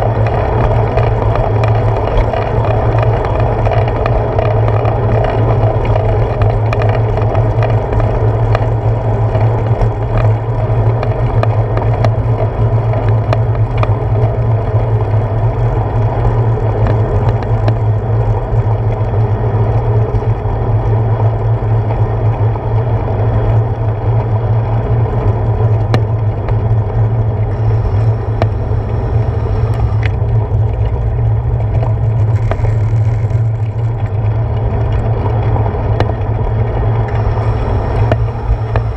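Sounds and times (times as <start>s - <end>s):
bicycle tyres rumbling: 0.0s - 38.9s
small clicks and rattles: 0.0s - 38.9s.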